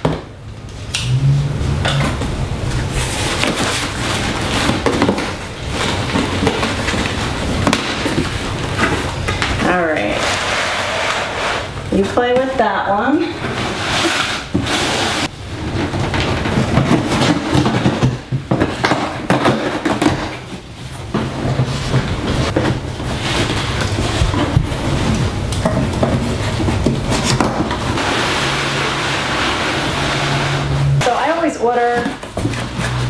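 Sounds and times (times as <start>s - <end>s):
cardboard rustling and scraping: 2.0s - 33.0s.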